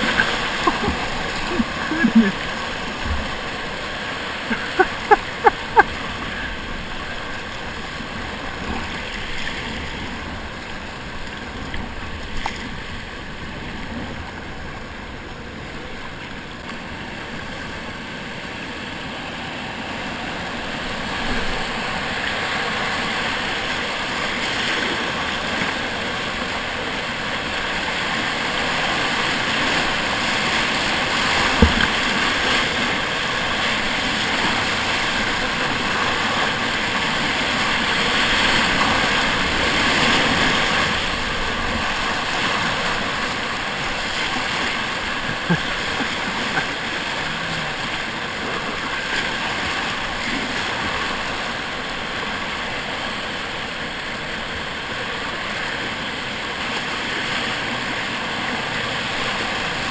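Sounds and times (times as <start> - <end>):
paddle splashes: 0.0 - 59.9
rushing river water: 0.0 - 59.9.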